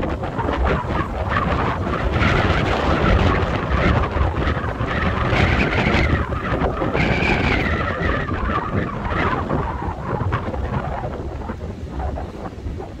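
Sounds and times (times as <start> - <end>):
strong wind buffeting microphone: 0.0 - 13.0
wavering wind whistle: 0.0 - 13.0.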